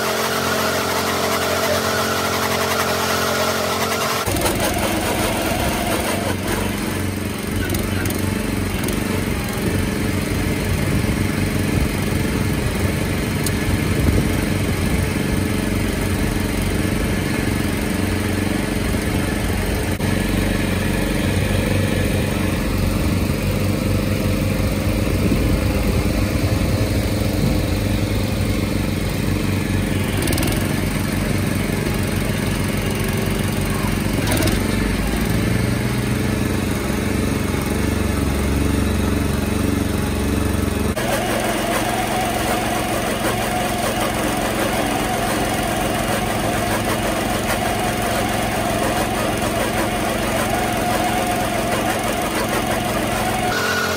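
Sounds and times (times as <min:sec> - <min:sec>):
small gas engine running: 0:00.0 - 0:53.9
tractor diesel engine running: 0:00.0 - 0:53.9.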